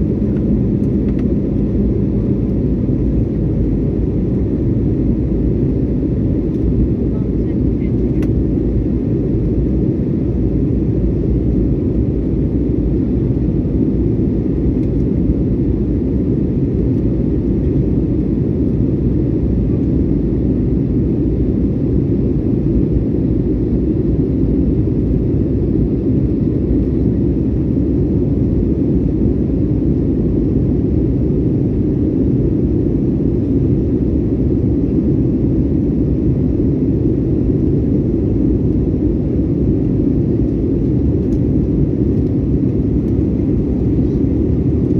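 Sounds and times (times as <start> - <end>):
jet engines and rushing air: 0.0 - 44.9.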